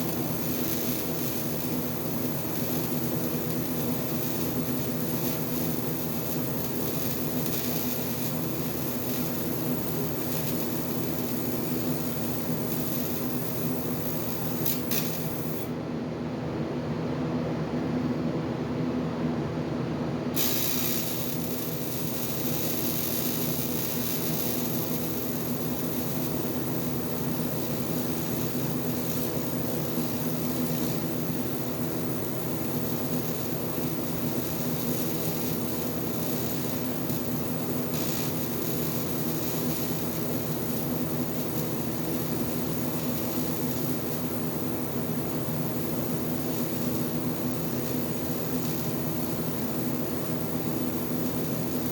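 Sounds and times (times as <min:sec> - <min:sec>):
bright hiss: 0:00.0 - 0:15.7, 0:20.4 - 0:51.9
welding arc buzzing hum: 0:00.0 - 0:15.9, 0:20.2 - 0:51.9.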